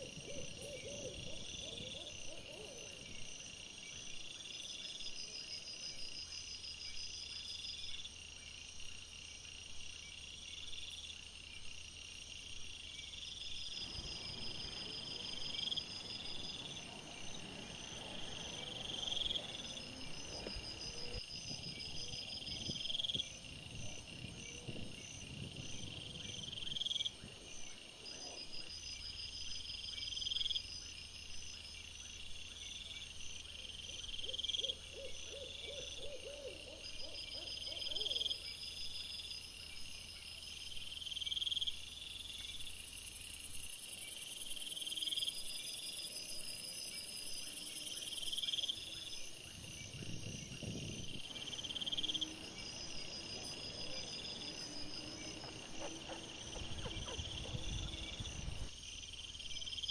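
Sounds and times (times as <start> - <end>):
faint insect trills: 0.0 - 59.9
insect high chirp: 0.0 - 59.9
lower pulsed insect calls: 0.0 - 59.9.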